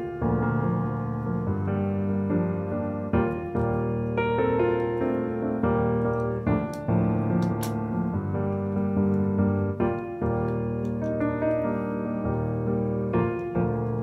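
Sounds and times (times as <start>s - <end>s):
electric piano music: 0.0s - 14.0s.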